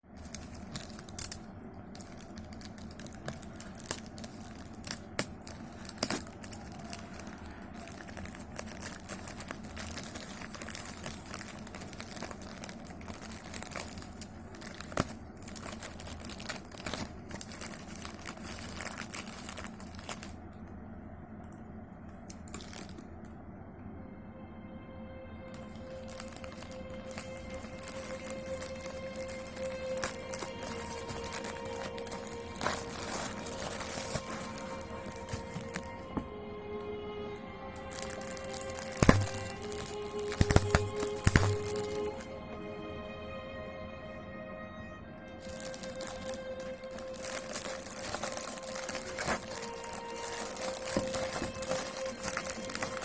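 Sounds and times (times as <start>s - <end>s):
packaging crumpled and torn: 0.1s - 20.4s, 22.2s - 23.1s, 25.6s - 36.2s, 37.7s - 42.3s, 45.4s - 53.0s.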